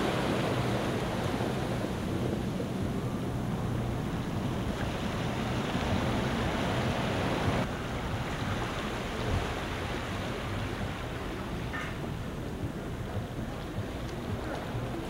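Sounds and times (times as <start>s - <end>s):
small waves washing ashore: 0.0s - 15.0s
wind rumbling on microphone: 0.0s - 15.0s.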